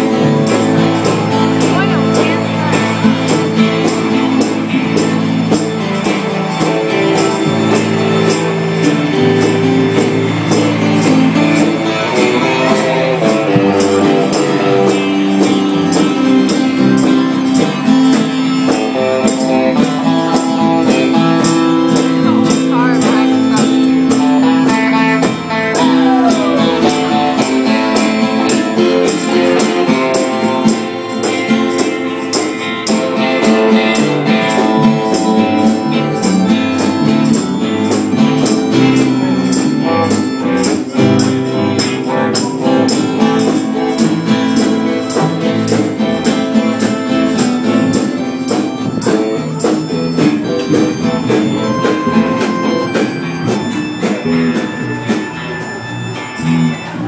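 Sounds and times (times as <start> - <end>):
strummed guitars band music: 0.0 - 57.0.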